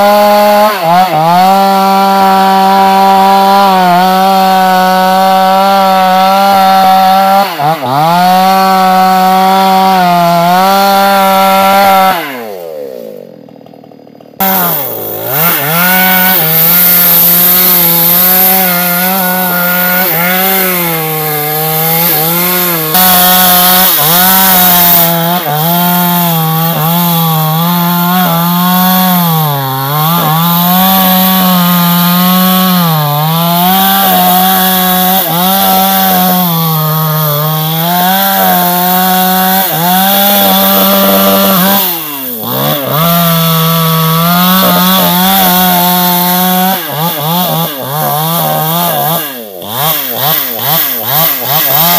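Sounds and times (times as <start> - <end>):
chainsaw cutting tree: 0.0 - 51.9.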